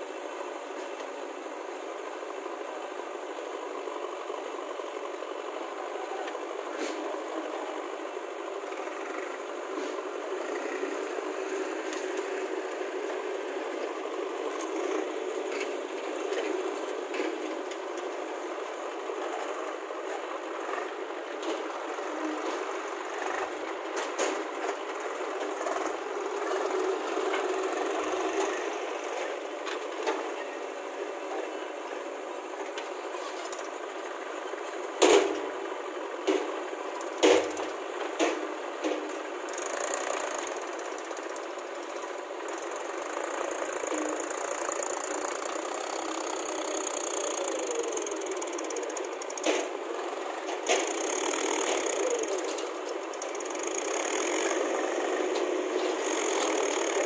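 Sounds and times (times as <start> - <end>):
engines running: 0.0 - 57.0.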